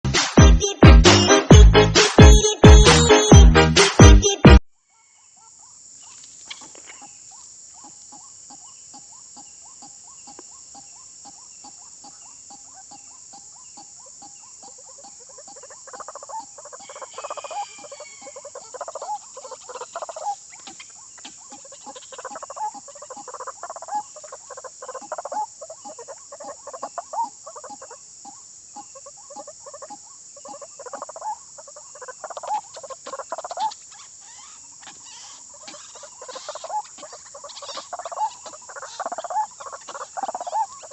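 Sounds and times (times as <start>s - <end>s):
high insect drone: 4.9s - 40.9s
waterhens croaking calls: 6.5s - 40.9s.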